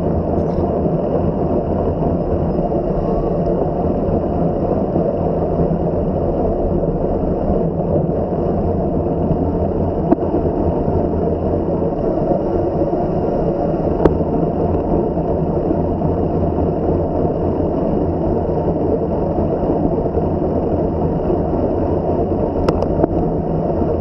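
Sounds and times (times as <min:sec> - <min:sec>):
wind and tyre noise: 0:00.0 - 0:24.0.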